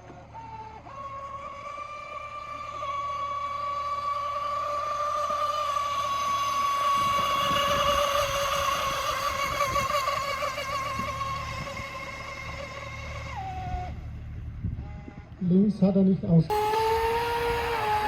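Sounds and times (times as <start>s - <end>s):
high-pitched motor whine: 0.0s - 15.6s, 16.3s - 18.0s.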